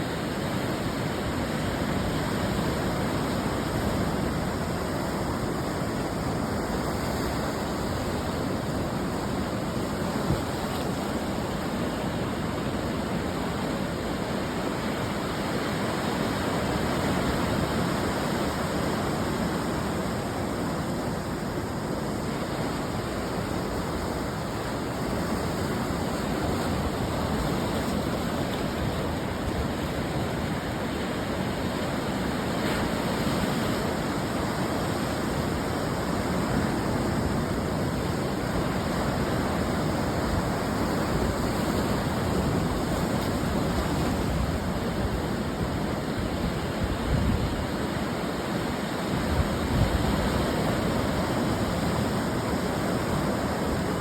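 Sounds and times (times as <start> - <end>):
ocean surf washing ashore: 0.0 - 54.0.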